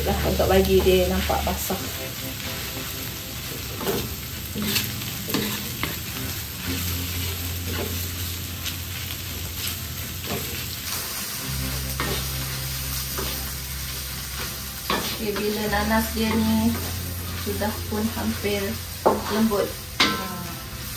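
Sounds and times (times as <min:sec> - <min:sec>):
food sizzling in a pan: 0:00.0 - 0:20.9.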